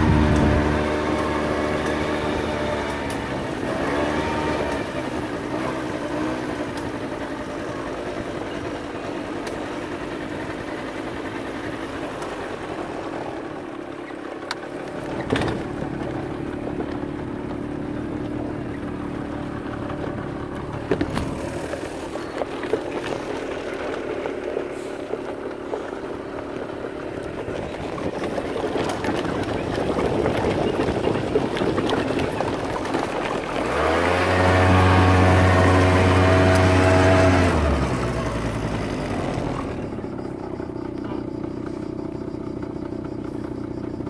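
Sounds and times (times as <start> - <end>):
off-road vehicle engine running: 0.0 - 44.0.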